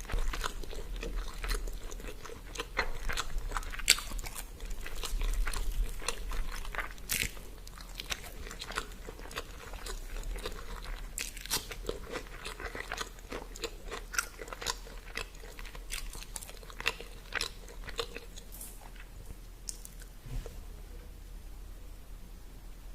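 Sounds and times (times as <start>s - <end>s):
crunchy bites: 0.0s - 18.7s
person chewing food: 0.0s - 20.2s.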